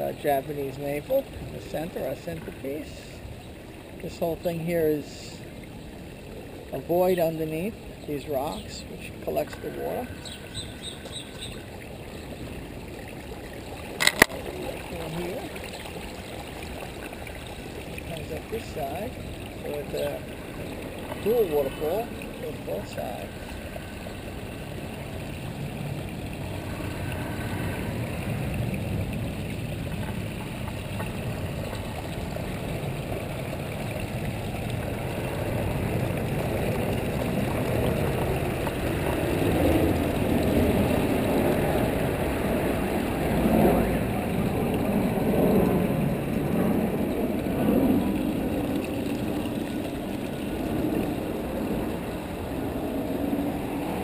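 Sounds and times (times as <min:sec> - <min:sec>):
water splashing over rocks: 0:00.0 - 0:54.0.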